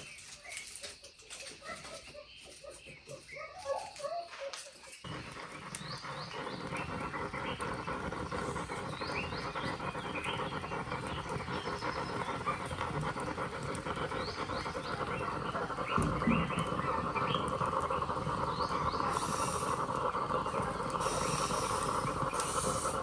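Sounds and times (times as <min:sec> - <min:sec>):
birds chirping: 0:00.0 - 0:23.0
insect chorus: 0:00.0 - 0:23.0.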